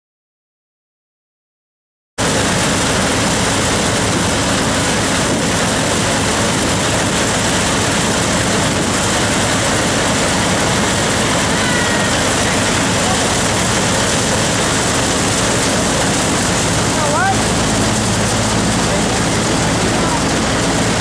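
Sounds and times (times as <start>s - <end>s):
threshing machine din: 2.2s - 21.0s.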